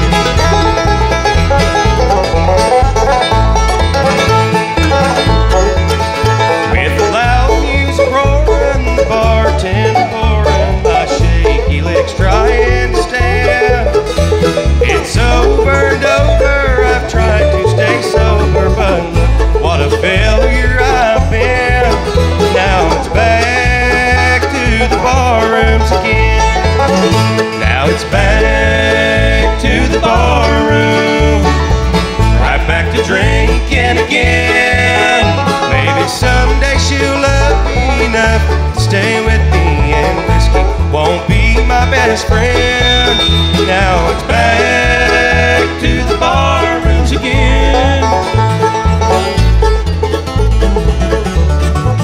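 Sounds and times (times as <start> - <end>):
bluegrass band playing: 0.0 - 52.0.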